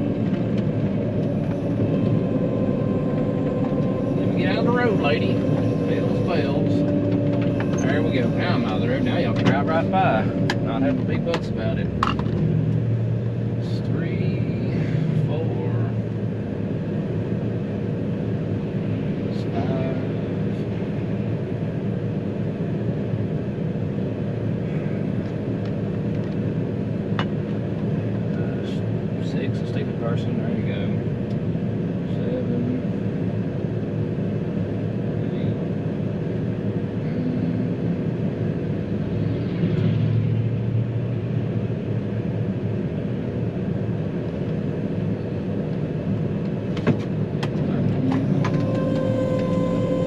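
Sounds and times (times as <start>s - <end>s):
vehicle engine droning: 0.0s - 50.0s.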